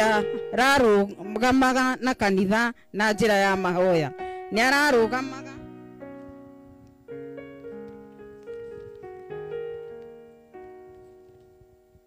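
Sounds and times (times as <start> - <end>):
slow soft piano music: 0.0 - 12.0.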